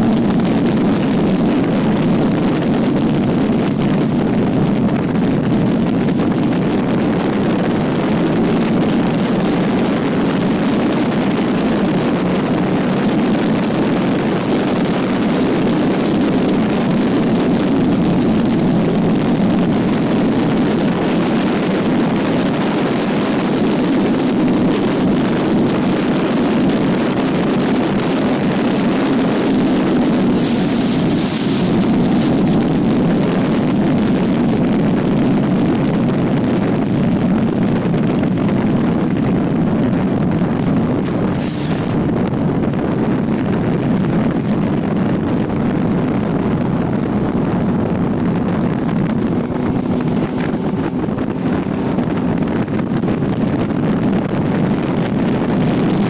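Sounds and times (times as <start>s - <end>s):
motorcycle engine cruising: 0.0s - 56.0s
wind roar on microphone: 0.0s - 56.0s.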